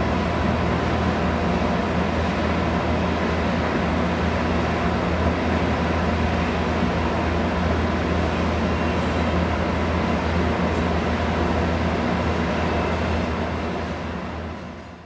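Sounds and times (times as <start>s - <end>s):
low locomotive engine drone: 0.0s - 15.0s
train wheels rumbling on rails: 0.0s - 15.0s.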